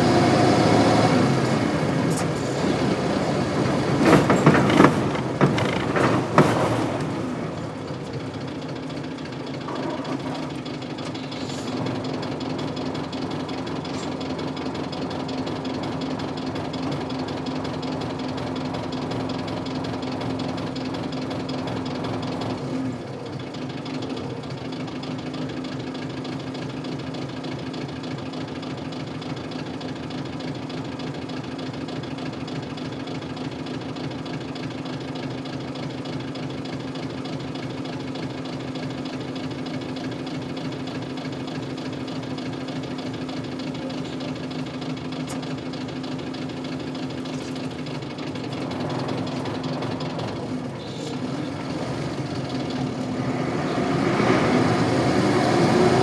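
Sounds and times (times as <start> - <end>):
diesel bus engine knocking: 0.0 - 56.0.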